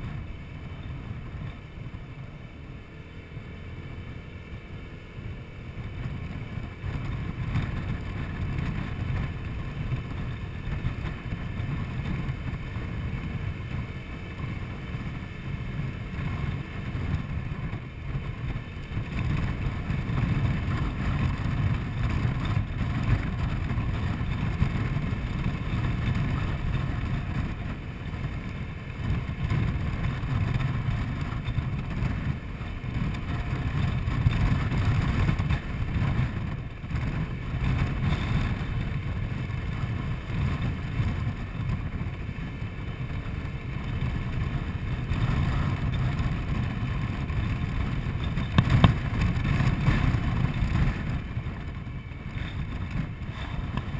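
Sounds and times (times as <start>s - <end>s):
scooter engine: 0.0s - 53.9s
wind on microphone: 0.0s - 53.9s.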